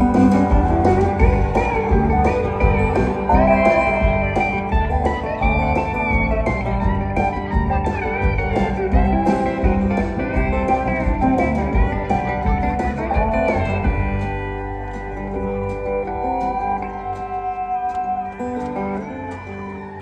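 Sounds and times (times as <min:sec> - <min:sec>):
bass and drum beat: 0:00.0 - 0:19.7
plucked guitars sliding notes: 0:00.0 - 0:20.0.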